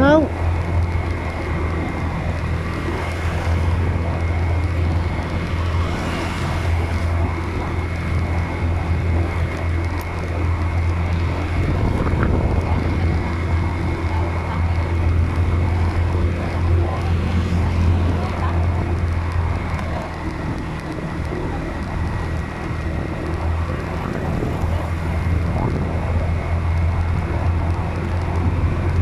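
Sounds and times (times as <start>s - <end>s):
vehicle engine and road drone: 0.0s - 29.0s.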